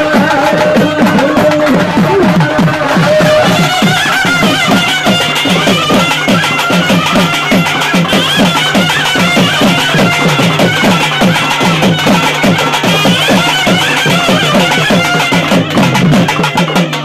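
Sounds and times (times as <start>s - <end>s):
wavering melody: 0.0s - 16.9s
drums beating low strokes: 0.0s - 17.0s.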